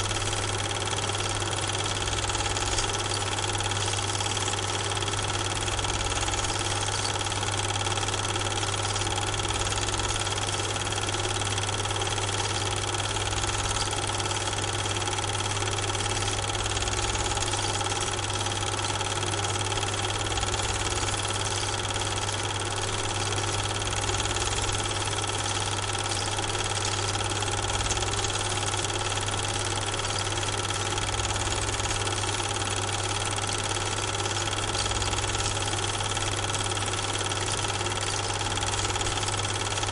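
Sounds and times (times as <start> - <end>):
machine hum with hiss: 0.0 - 39.9.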